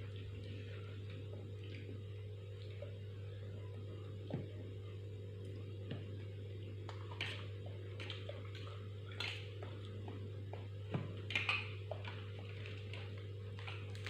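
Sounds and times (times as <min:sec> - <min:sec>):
soft chewing: 0:00.0 - 0:14.0
steady low hum: 0:00.0 - 0:14.0.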